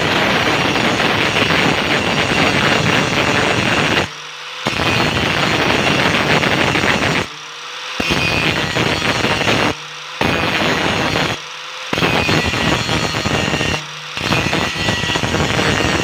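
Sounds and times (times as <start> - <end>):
angle grinder grinding metal: 0.0 - 16.0
grinder motor whine: 0.0 - 16.0.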